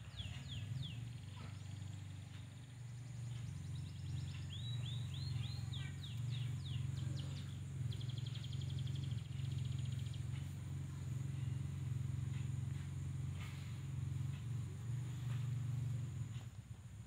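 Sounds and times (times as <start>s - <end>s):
small bird singing: 0.0s - 16.6s
steady low hum: 0.0s - 17.0s.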